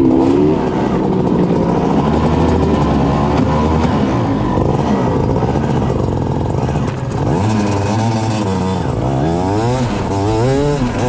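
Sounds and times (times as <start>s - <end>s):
kart engine revving: 0.0s - 11.0s.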